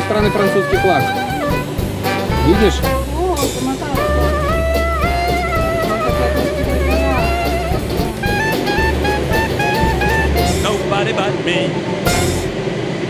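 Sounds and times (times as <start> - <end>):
regular drum beat: 0.0 - 10.9, 12.1 - 12.7
steady bass line: 0.0 - 10.9, 12.1 - 12.7
sliding bending melody: 0.0 - 13.0.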